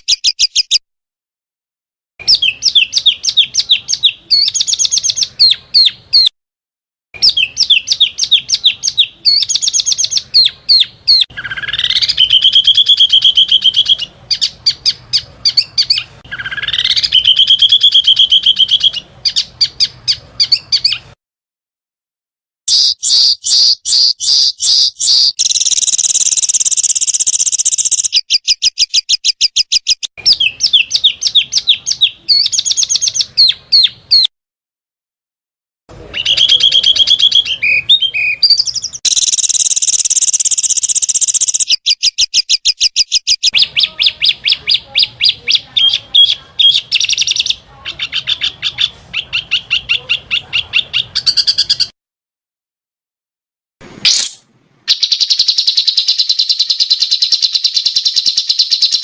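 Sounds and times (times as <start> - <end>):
songbirds chirping and trilling: 2.2 - 6.3, 7.2 - 21.2, 22.7 - 34.3, 35.9 - 51.9, 54.1 - 59.0.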